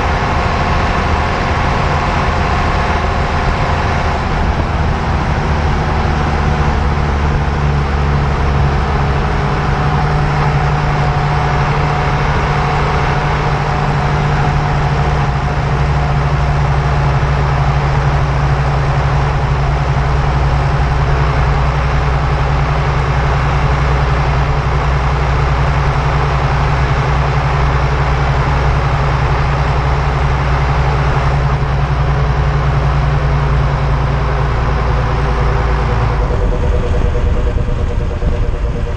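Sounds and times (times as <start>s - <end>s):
low drivetrain drone: 0.0s - 38.9s
tyres rolling on road: 0.0s - 38.9s.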